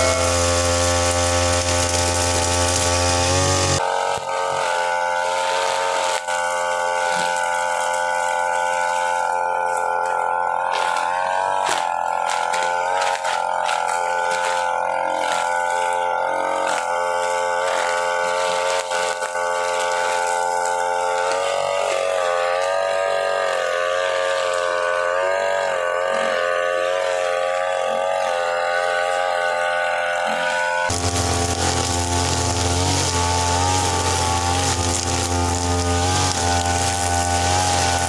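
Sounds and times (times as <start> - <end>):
brush cutter engine at high revs: 0.0 - 38.0.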